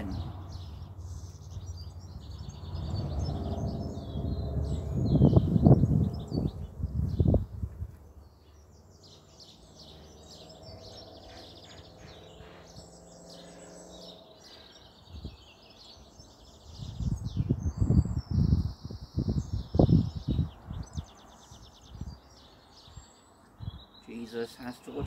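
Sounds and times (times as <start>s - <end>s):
small birds singing and chirping: 0.0s - 25.0s.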